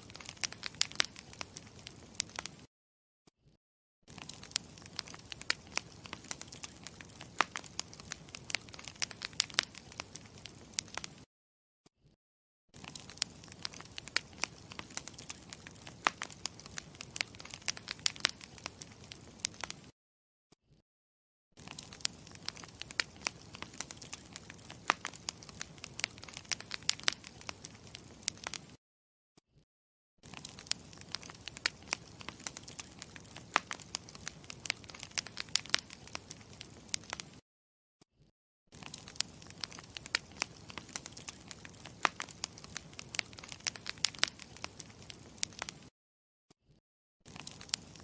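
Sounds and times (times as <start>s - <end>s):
campfire crackling: 0.0s - 2.7s, 4.1s - 11.2s, 12.8s - 19.9s, 21.6s - 28.8s, 30.2s - 37.4s, 38.8s - 45.9s, 47.3s - 48.0s.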